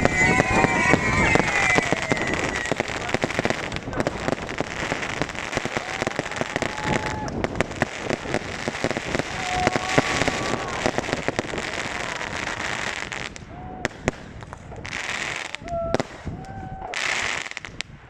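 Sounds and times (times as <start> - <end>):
fireworks whistling: 0.0 - 17.7
fireworks crackling: 0.0 - 18.0.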